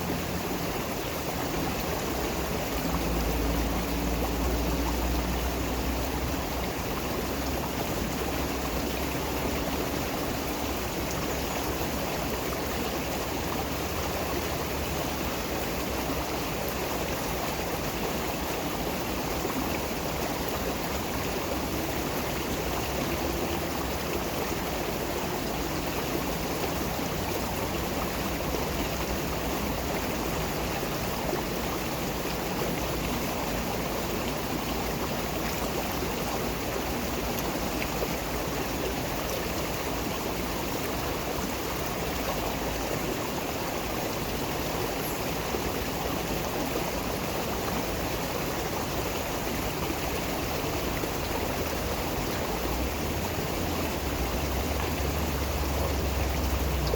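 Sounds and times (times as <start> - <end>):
stream water rushing: 0.0 - 56.9.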